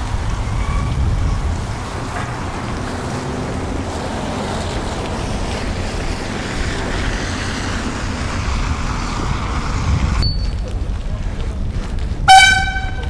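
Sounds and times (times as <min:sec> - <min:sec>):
passing road traffic: 0:00.0 - 0:13.0
wind on microphone: 0:00.0 - 0:13.0.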